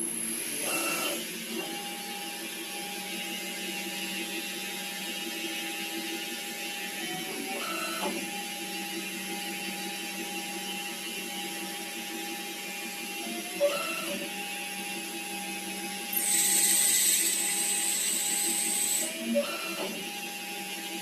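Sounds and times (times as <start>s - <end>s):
lathe motor whine: 0.0s - 21.0s.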